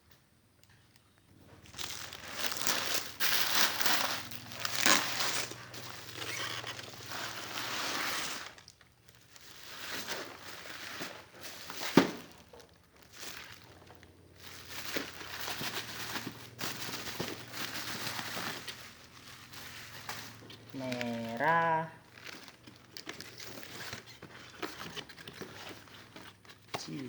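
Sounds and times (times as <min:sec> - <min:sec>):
plastic packaging crinkling: 0:00.7 - 0:27.0.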